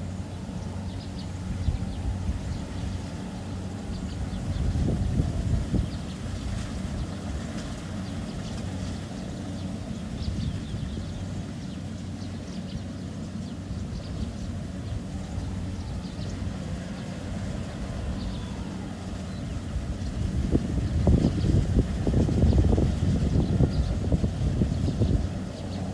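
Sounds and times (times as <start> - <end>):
combine harvester engine humming: 0.0 - 25.9.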